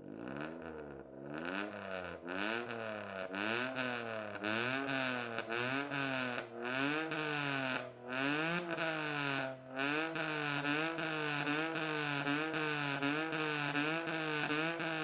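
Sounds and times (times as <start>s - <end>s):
car engine exhaust drone: 0.0s - 15.0s.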